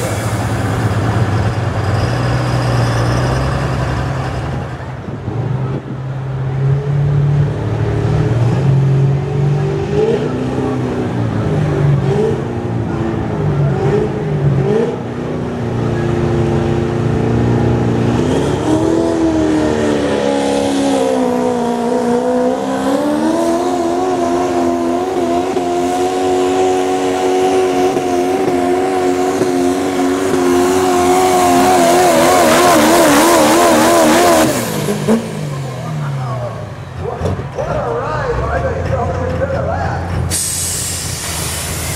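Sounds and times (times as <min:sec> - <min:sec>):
diesel truck engine revving: 0:00.0 - 0:41.9.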